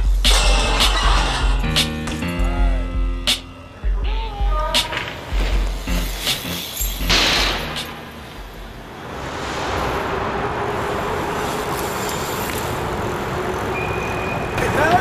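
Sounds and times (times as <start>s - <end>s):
road traffic rush: 0.0s - 15.0s.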